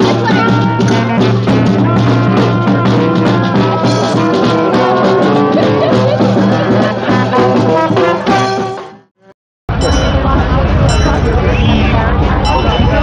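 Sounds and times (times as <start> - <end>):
steady drum beat: 0.0 - 9.0, 9.7 - 13.0
brass band playing: 0.0 - 13.0.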